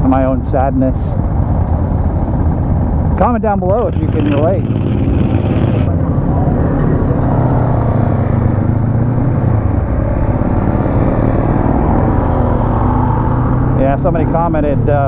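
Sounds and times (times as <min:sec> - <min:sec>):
motorcycle engine running: 0:00.0 - 0:15.0
steady rushing noise: 0:00.0 - 0:15.0.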